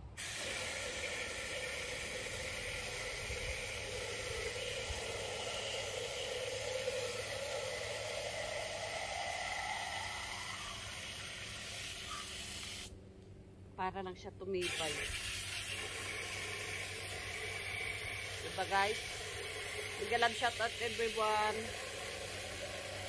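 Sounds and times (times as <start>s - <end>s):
water pouring into a can: 0.1s - 12.9s, 14.6s - 23.0s.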